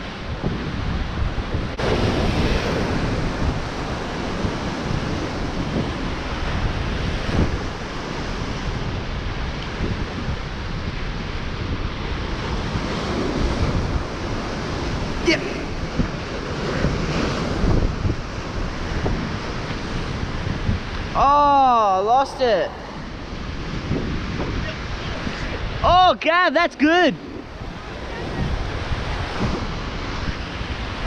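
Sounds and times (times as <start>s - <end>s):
wind buffeting microphone: 0.0s - 31.0s
surf breaking over rocks: 0.3s - 31.0s.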